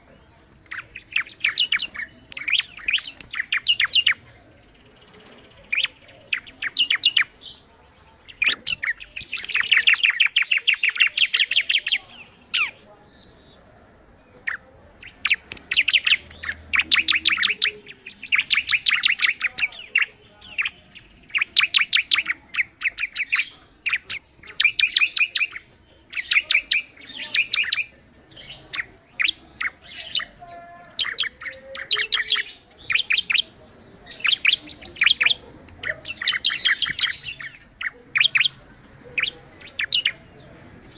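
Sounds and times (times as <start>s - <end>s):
bird singing rapid trills: 0.6s - 13.6s, 14.3s - 40.9s.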